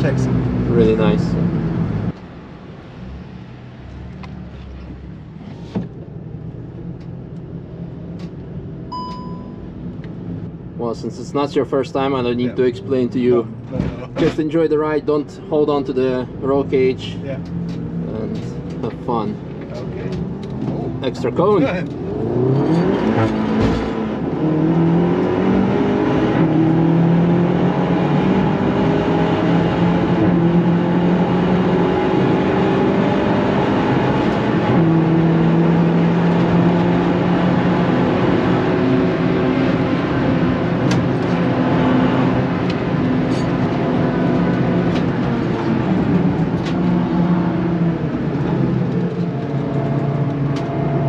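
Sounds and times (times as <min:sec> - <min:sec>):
car engine accelerating: 0:00.0 - 0:10.5, 0:11.2 - 0:51.0.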